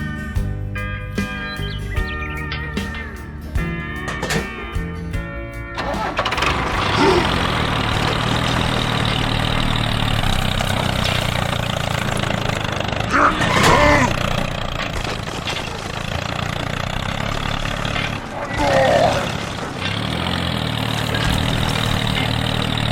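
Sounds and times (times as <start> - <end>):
small engine idling: 0.0 - 22.9.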